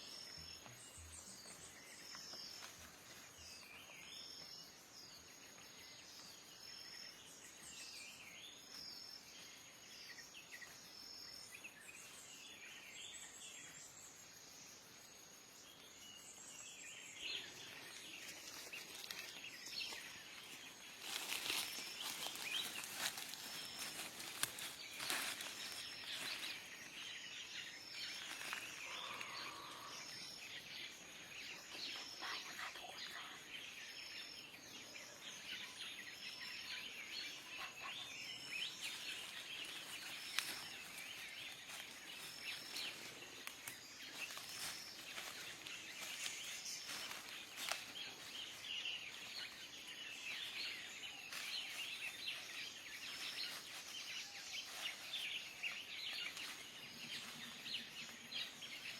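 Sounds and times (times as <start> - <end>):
small birds chirping: 0.0 - 58.9.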